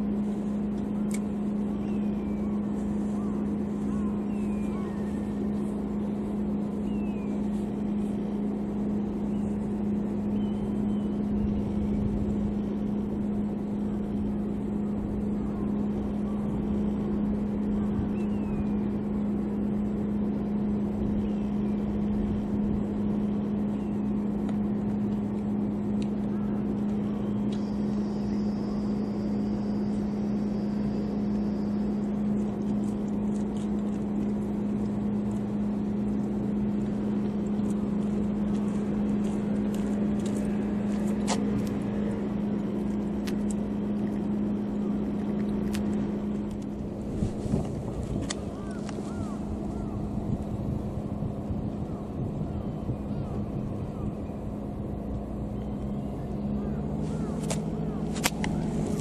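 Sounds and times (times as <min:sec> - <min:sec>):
engine idling drone: 0:00.0 - 0:59.0.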